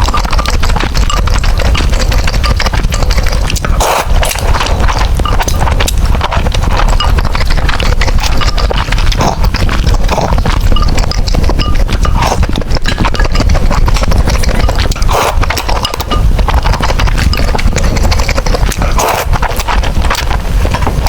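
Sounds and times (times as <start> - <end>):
chewing noodles: 0.0 - 21.0
short slurps: 0.0 - 21.0
wet mouth clicks and smacks: 0.0 - 21.0.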